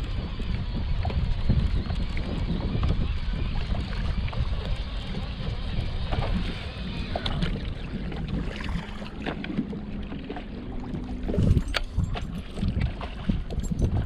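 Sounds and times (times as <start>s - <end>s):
water lapping around boat: 0.0s - 14.0s
wind: 0.0s - 14.0s.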